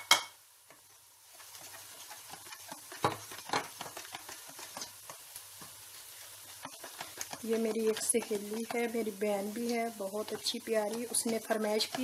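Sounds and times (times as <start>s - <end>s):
batter stirred in metal bowl: 0.7s - 12.0s.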